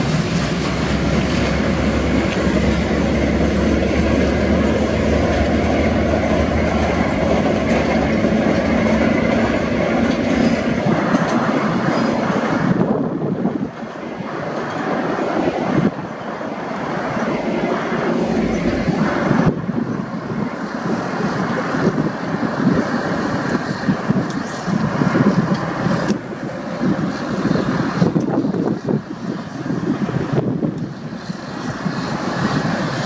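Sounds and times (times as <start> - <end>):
freight train wagons rumbling: 0.0 - 33.0.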